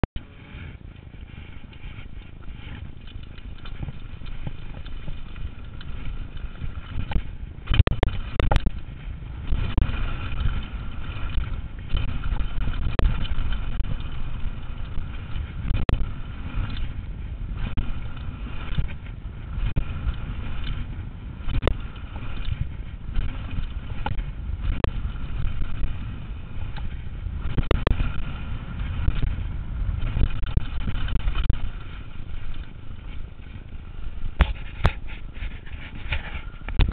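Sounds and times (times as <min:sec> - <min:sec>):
wind: 0:00.0 - 0:36.9
bike knocking and rattling: 0:00.2 - 0:36.9.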